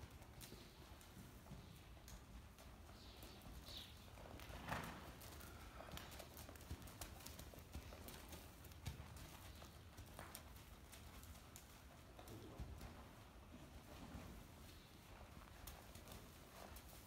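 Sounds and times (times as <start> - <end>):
horse hoofbeats trotting on dirt: 0.0 - 17.0.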